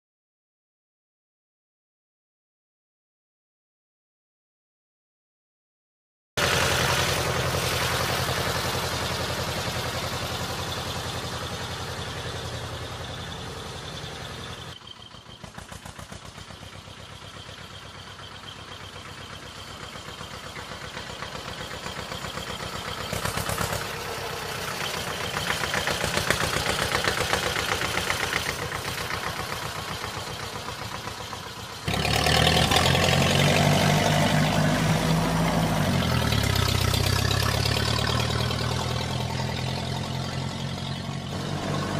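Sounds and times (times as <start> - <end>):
diesel tractor engine idling: 6.4 - 41.9.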